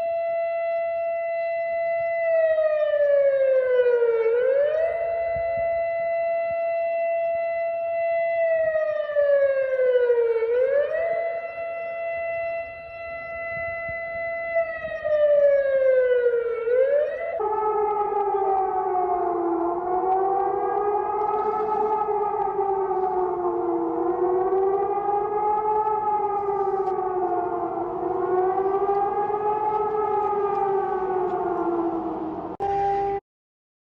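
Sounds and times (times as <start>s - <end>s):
civil defence siren wailing: 0.0s - 33.2s.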